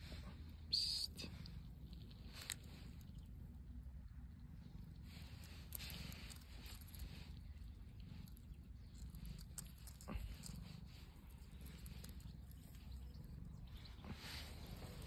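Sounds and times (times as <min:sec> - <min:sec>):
cat purring: 0:01.3 - 0:15.0.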